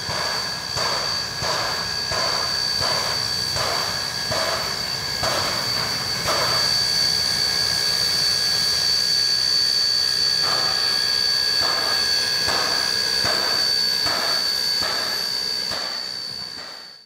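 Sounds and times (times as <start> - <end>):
rhythmic steam puffs: 0.0 - 17.0
steam locomotive hissing steam: 0.0 - 17.0.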